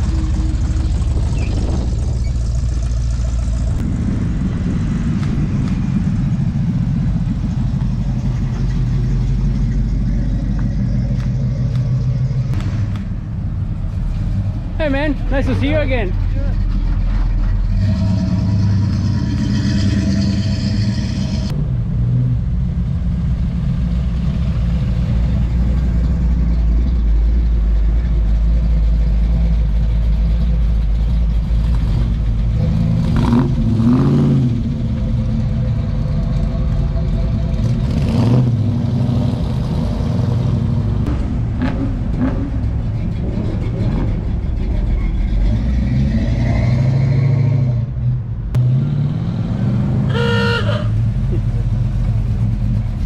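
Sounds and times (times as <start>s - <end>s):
muscle car engines rumbling: 0.0s - 53.0s.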